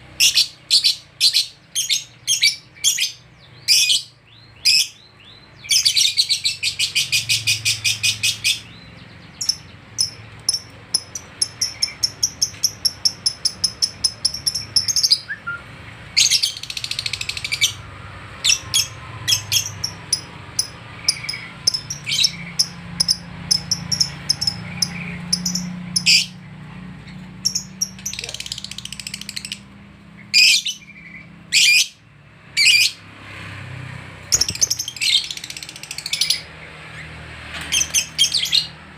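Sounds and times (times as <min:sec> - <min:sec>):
lovebirds chirping: 0:00.0 - 0:33.1, 0:34.2 - 0:38.8.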